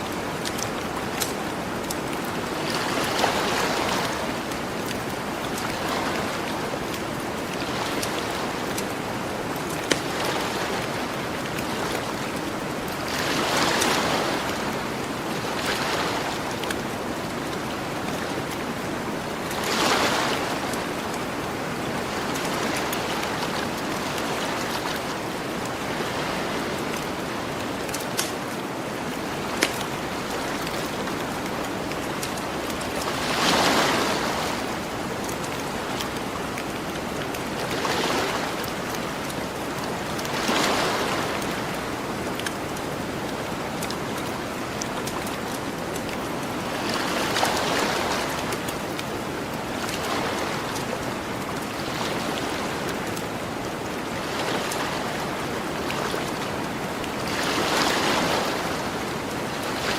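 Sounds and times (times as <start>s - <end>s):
ocean waves washing onto beach: 0.0s - 59.9s.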